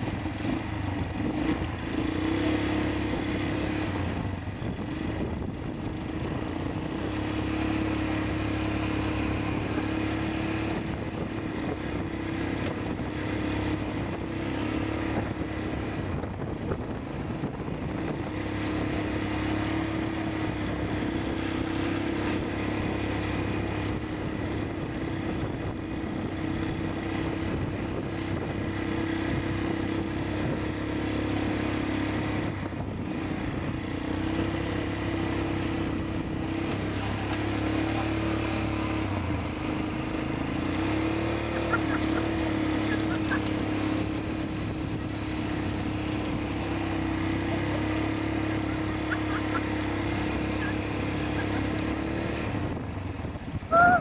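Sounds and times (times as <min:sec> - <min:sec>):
quad bike engines running: 0:00.0 - 0:54.0.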